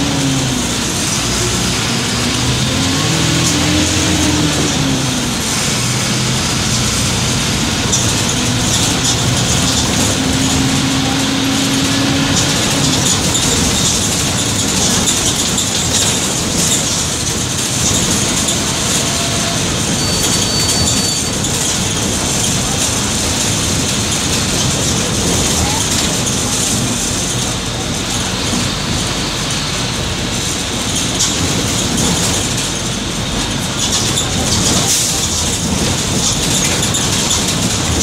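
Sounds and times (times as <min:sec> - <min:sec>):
diesel bus engine rumble: 0:00.0 - 0:38.0
engine rattle: 0:00.0 - 0:38.0.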